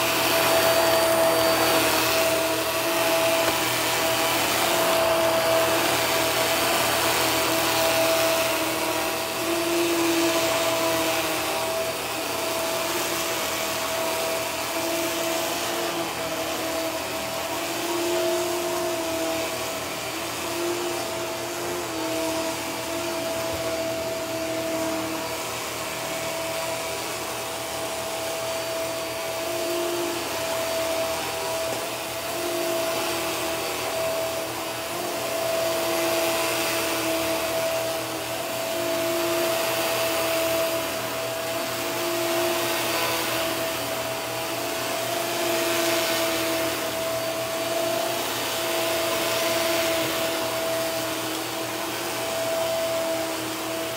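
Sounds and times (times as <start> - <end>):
vacuum cleaner on carpet: 0.0 - 53.9.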